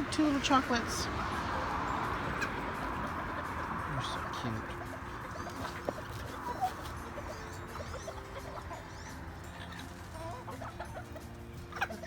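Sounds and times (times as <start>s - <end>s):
chickens clucking: 0.0s - 12.0s
high chick chirps: 1.6s - 12.0s.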